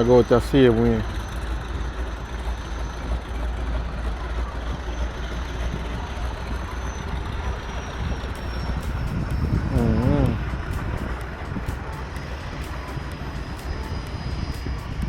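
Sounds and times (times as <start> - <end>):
outdoor noise: 0.0 - 15.0
propeller engine droning: 0.0 - 15.0.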